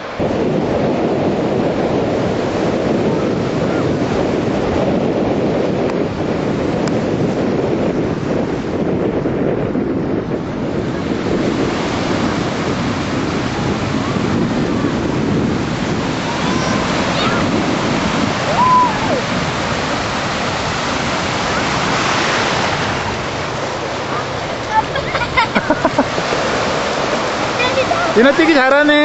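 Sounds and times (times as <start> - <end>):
ocean surf breaking: 0.0 - 29.0
wind buffeting microphone: 0.0 - 29.0.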